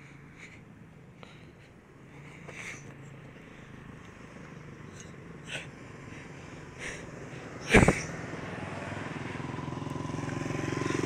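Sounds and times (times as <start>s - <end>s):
road traffic hum: 0.0s - 11.0s
vehicle passing: 0.0s - 11.0s.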